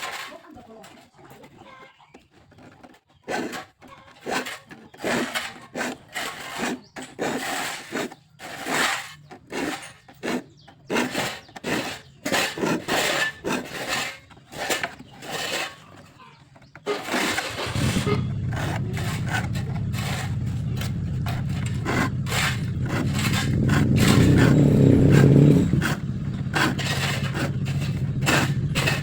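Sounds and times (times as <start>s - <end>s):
hand saw cutting wood: 0.0s - 29.0s.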